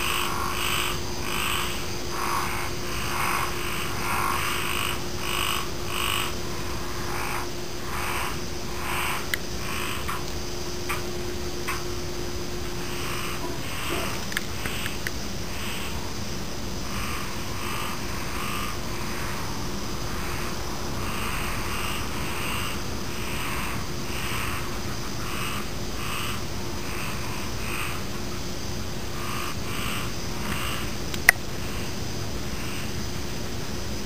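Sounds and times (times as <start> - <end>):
frogs croaking: 0.0 - 34.0
insects chirring: 0.0 - 34.0.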